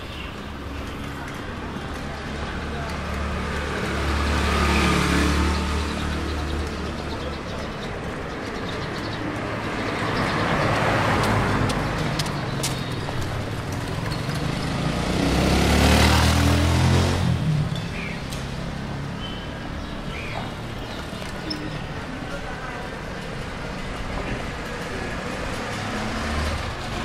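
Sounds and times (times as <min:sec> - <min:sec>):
road noise rushing: 0:00.0 - 0:27.0
vehicles passing: 0:00.0 - 0:27.0.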